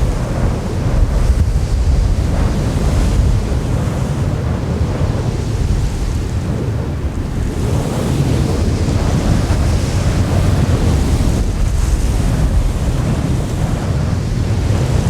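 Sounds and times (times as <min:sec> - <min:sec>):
storm wind blowing: 0:00.0 - 0:15.0.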